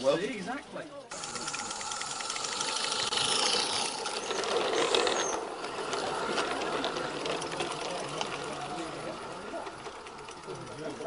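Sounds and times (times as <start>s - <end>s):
model train wheels clicking on track: 1.0s - 11.0s.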